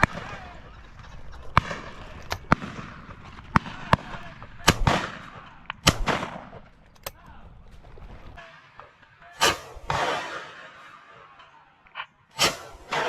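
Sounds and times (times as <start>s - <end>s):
distant gunshots: 0.0s - 13.0s
loud shotgun reports with echo: 0.0s - 13.0s.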